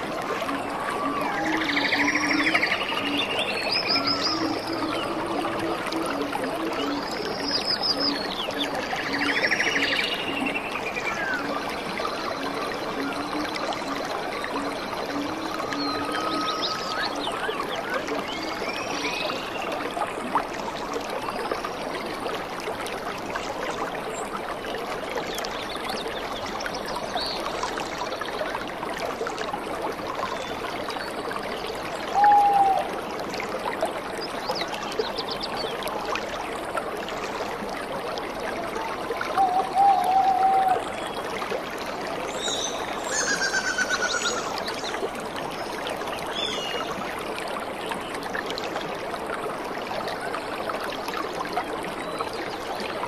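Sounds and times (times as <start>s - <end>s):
waterfall and stream over rocks: 0.0s - 53.0s.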